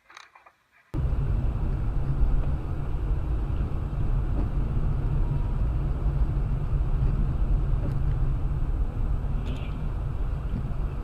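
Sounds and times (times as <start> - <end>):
car road and engine noise: 0.9 - 11.0.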